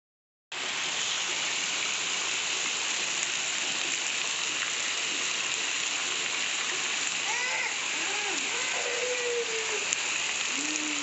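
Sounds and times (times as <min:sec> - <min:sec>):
rain on roofs and street: 0:00.5 - 0:11.0.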